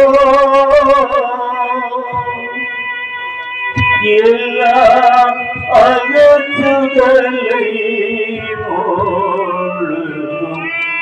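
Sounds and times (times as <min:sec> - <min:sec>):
person singing: 0:00.0 - 0:02.8, 0:03.7 - 0:11.0
instrumental accompaniment: 0:00.0 - 0:11.0.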